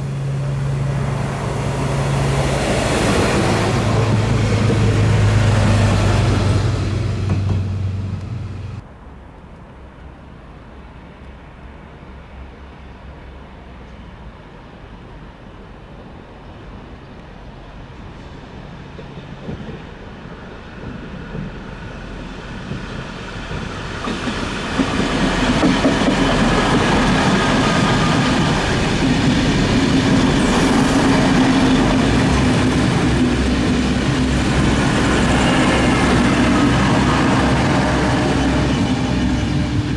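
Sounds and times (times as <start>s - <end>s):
diesel trains passing: 0.0s - 39.9s.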